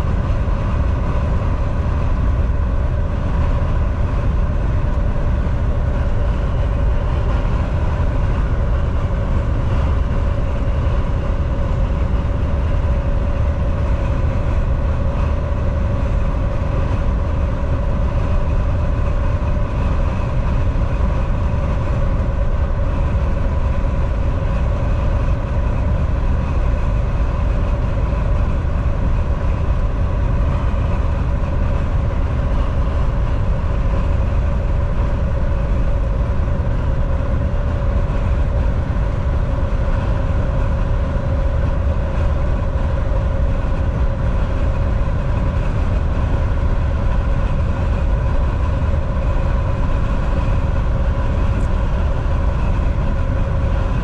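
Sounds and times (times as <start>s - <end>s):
steady even hum: 0.0s - 54.0s
truck engine and road rumble: 0.0s - 54.0s.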